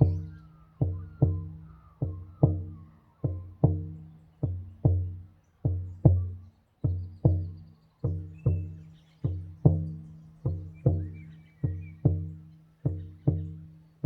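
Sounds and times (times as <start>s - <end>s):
faint birds chirping: 0.0s - 14.0s
frame drum beaten in paired strokes: 0.0s - 14.0s.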